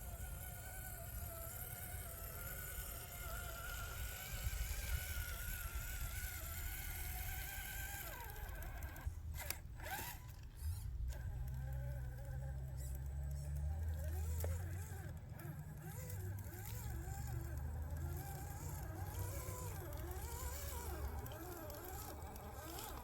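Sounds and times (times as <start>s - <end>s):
electric motor and gears whining: 0.0s - 23.0s.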